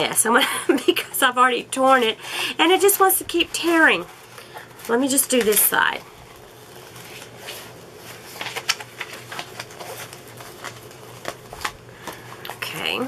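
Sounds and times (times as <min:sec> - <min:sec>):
paper and canvas rustling: 0:01.7 - 0:13.0.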